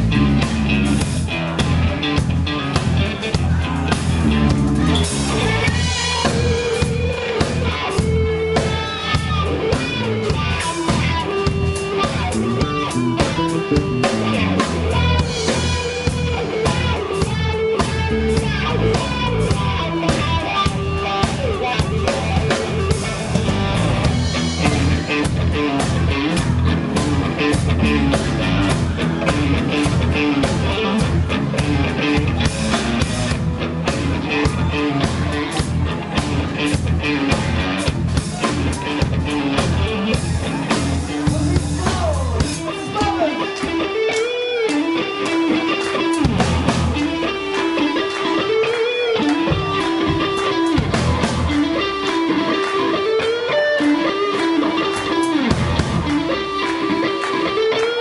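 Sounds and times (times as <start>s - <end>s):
drum kit beat: 0.0s - 58.0s
electric guitars: 0.0s - 58.0s.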